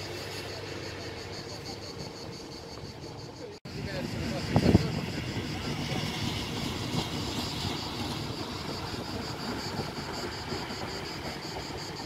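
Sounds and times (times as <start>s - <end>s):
cicadas pulsing: 0.0s - 12.0s
locomotives rumbling: 0.0s - 12.0s.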